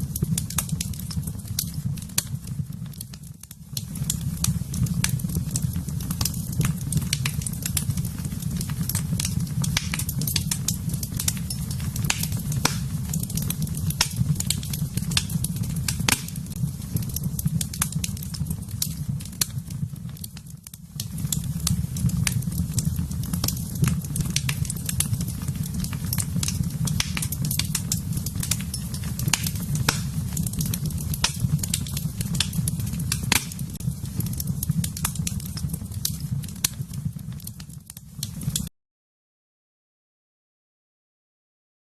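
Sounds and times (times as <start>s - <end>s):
fire crackling and popping: 0.0s - 38.7s
low rumble of flames: 0.0s - 38.7s.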